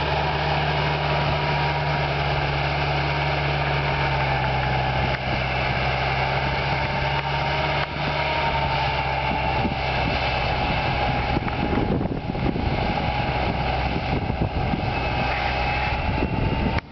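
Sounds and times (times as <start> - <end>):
steady whine: 0.0 - 16.9
tractor diesel engine running: 0.0 - 16.9.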